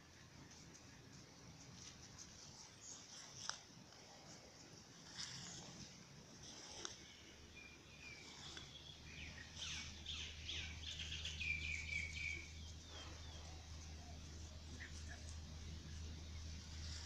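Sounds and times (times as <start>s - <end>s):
faint low hum: 0.0s - 17.0s
small birds chirping: 0.5s - 17.0s.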